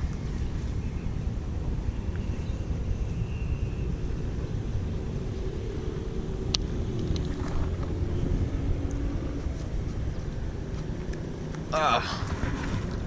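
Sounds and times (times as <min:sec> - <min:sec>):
faint engine tones: 0:00.0 - 0:13.0
traffic rumble: 0:00.0 - 0:13.0.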